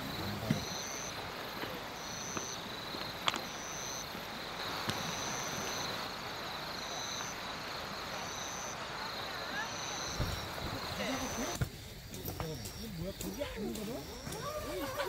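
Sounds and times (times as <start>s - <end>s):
insect high trill: 0.0s - 15.0s
insects pulsing chirr: 0.0s - 15.0s.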